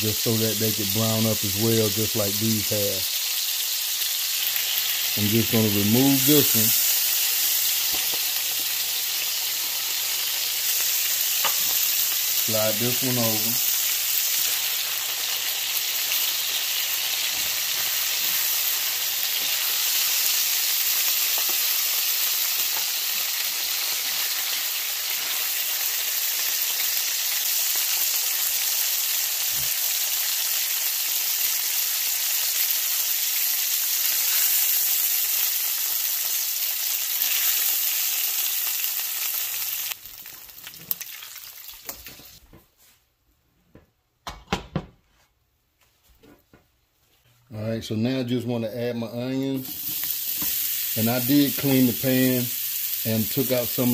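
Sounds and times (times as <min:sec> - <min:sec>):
steaks sizzling in hot oil: 0:00.0 - 0:42.4, 0:49.6 - 0:53.9.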